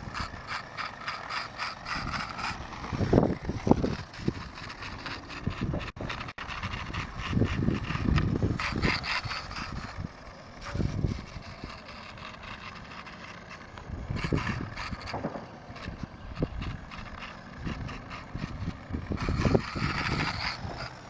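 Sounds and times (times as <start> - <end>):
toy motorcycle motor rattle: 0.0 - 21.0.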